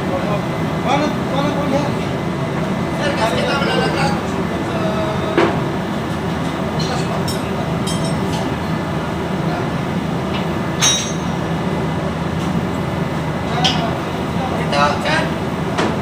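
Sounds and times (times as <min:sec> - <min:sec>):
low machinery drone: 0:00.0 - 0:16.0.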